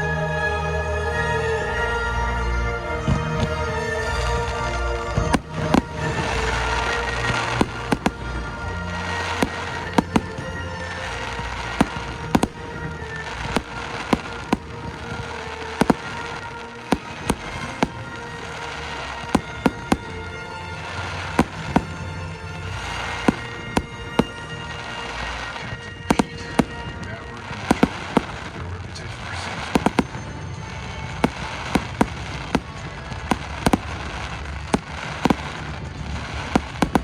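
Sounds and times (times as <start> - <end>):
music: 0.0 - 37.0
fireworks bangs: 3.3 - 37.0
fireworks crackling: 3.4 - 37.0.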